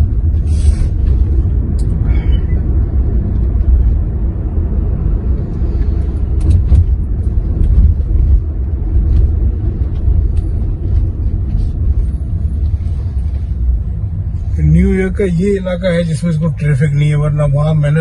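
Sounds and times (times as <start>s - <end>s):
car cabin road rumble: 0.0s - 18.0s.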